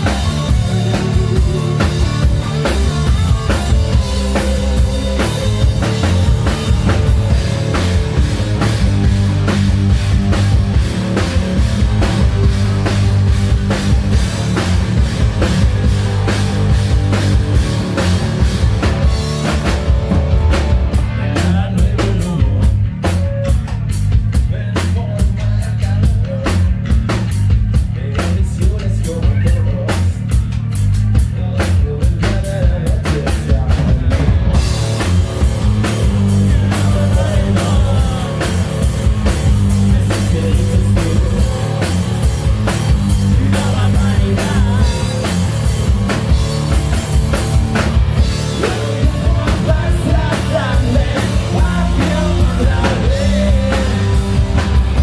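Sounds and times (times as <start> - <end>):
hard rock band playing live: 0.0 - 55.0.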